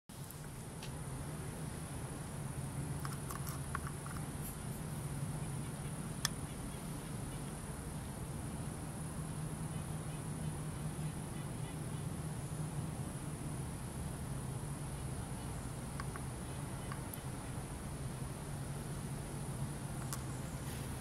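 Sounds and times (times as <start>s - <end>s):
steady background hum: 0.1s - 21.0s.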